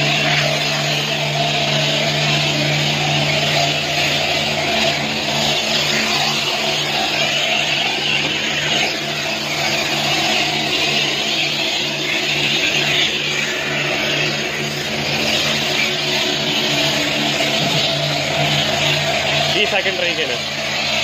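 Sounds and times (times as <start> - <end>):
hissing spray of soapy water: 0.0 - 21.0
pump motor hum: 0.0 - 21.0.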